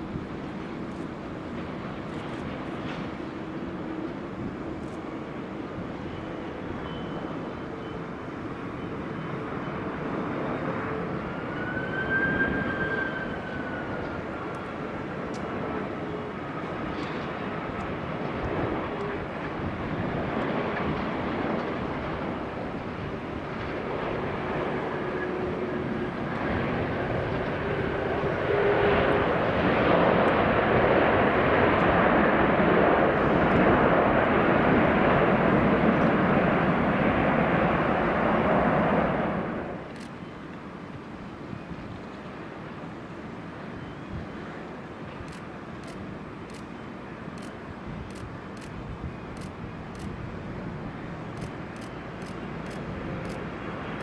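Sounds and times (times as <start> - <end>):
airliner jet engine noise: 0.0 - 54.0.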